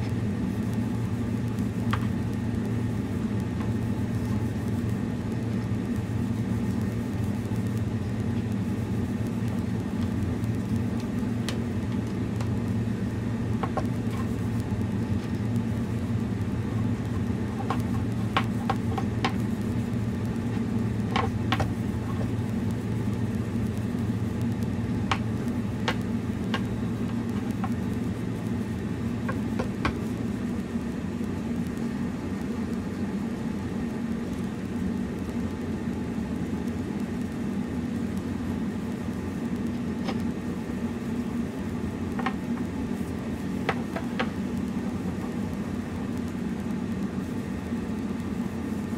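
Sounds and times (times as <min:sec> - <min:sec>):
low machine hum: 0:00.0 - 0:48.9.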